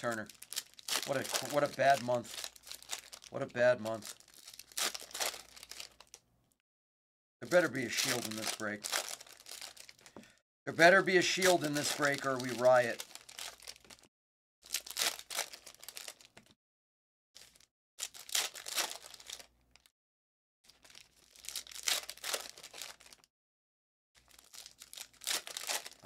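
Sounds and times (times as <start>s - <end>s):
foil wrappers crinkling and tearing: 0.0s - 6.2s, 7.5s - 10.1s, 10.8s - 16.5s, 17.4s - 19.9s, 20.7s - 23.3s, 24.2s - 26.0s.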